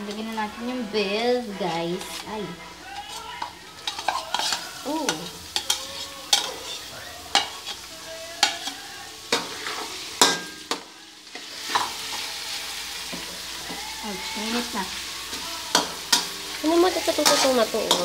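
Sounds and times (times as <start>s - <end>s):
meat sizzling in a wok: 0.0s - 18.0s
metal utensil scraping pan: 0.0s - 18.0s.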